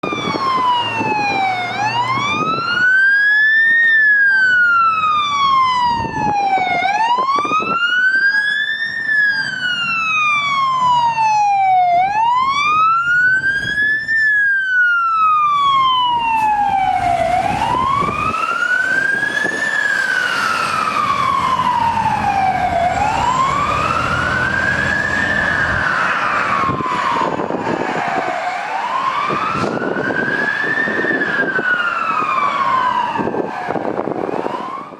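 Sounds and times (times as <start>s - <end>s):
broad rush of noise: 0.0s - 34.9s
fire engine siren wailing: 0.0s - 34.9s.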